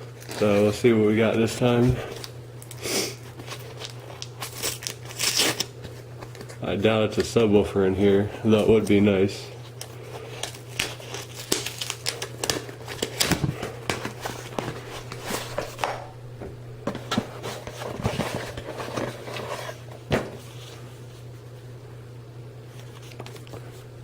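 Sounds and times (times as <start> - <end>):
package rustling and crinkling: 0.0 - 21.4, 22.7 - 24.0.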